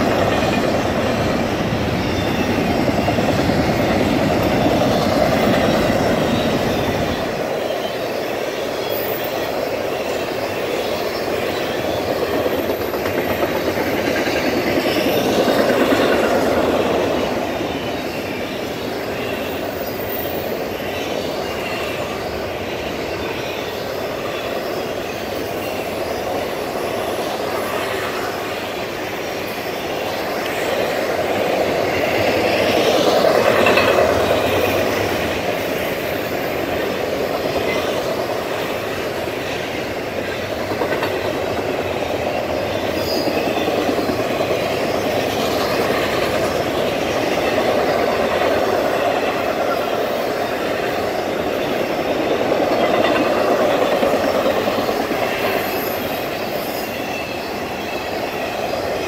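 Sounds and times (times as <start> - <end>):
train rolling past: 0.0 - 59.0.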